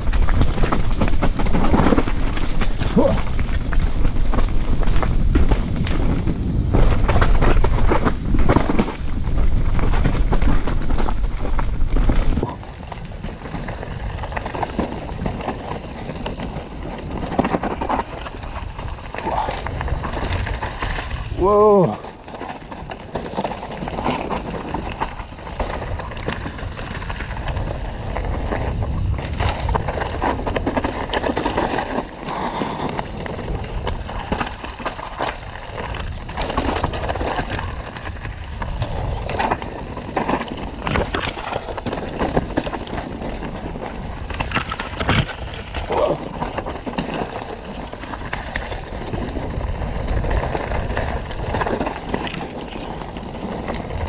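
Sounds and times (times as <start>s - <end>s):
bike tyres rumbling over dirt: 0.0s - 54.0s.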